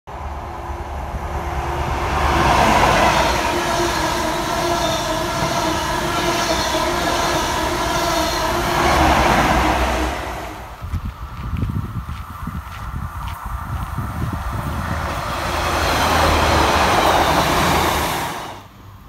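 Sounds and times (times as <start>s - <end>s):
train wheels rumbling on rails: 0.1s - 18.7s.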